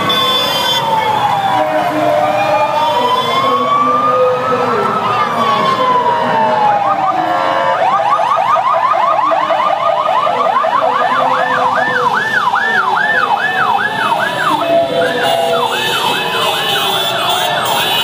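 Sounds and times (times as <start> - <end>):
emergency sirens wailing: 0.0 - 18.0
siren slow rise-and-fall yelp: 0.0 - 18.0
siren fast yelp: 0.1 - 18.0.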